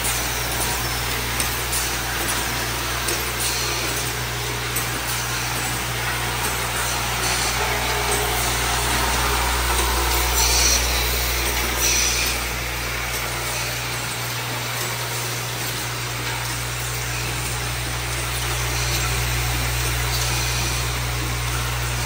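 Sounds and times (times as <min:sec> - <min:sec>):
low electric buzz of machines: 0:00.0 - 0:22.0.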